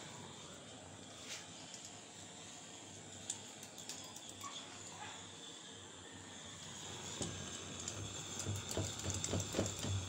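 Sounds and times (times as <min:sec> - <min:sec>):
faint hiss: 0:00.0 - 0:10.0.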